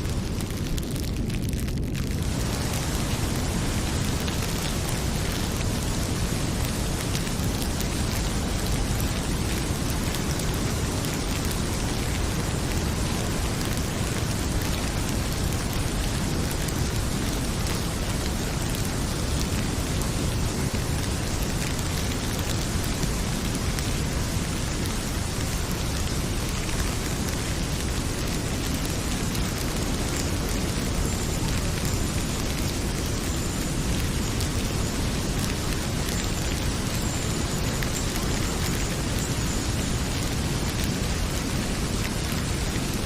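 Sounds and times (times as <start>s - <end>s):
heavy rain: 0.0s - 43.0s
wood fire crackling: 0.0s - 43.0s.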